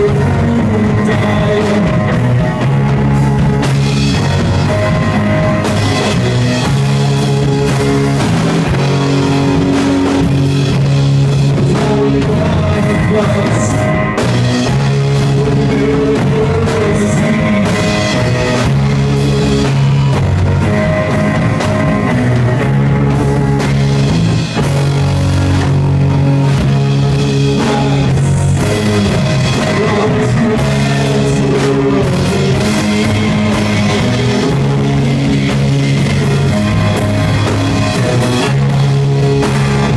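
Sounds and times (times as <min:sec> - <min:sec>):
drum kit beat: 0:00.0 - 0:39.9
rock band playing live: 0:00.0 - 0:39.9.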